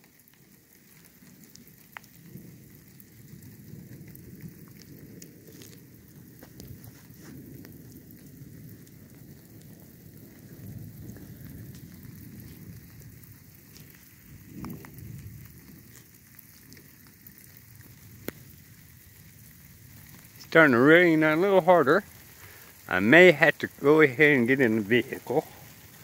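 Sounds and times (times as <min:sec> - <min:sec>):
light rain falling: 0:00.0 - 0:26.0
raindrops tapping: 0:00.0 - 0:26.0.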